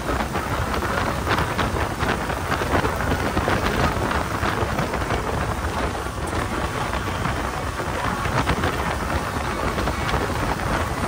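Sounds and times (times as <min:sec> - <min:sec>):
boat engine drone: 0:00.0 - 0:11.0
rushing water and spray: 0:00.0 - 0:11.0
wind buffeting microphone: 0:00.0 - 0:11.0.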